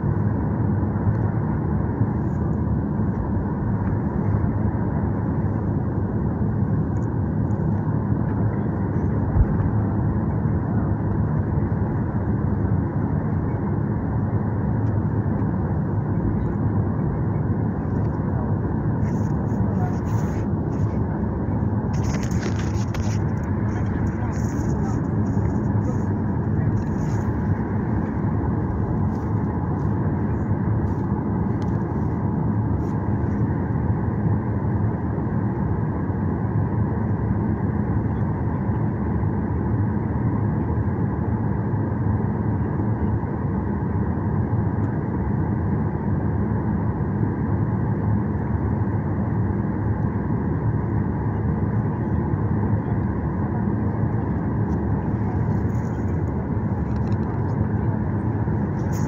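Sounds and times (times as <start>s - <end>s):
jet engines idling low hum: 0.0s - 59.0s.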